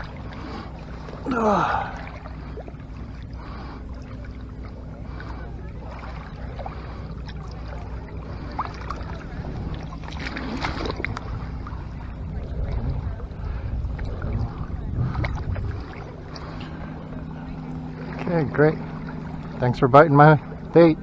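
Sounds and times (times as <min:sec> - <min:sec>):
steady low hum: 0:00.0 - 0:21.0
water sloshing and splashing: 0:00.0 - 0:21.0.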